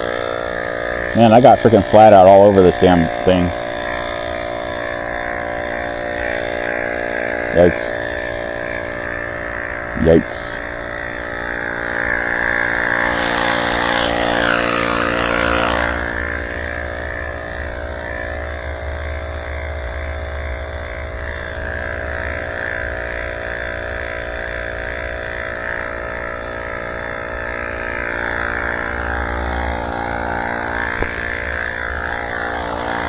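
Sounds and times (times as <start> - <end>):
electric air pump humming: 0.0 - 33.0.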